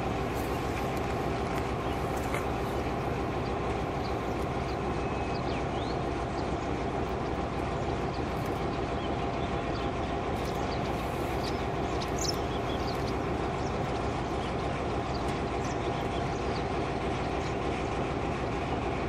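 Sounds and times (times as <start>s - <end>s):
diesel locomotive idling: 0.0s - 19.0s
faint steady hum: 0.0s - 19.0s.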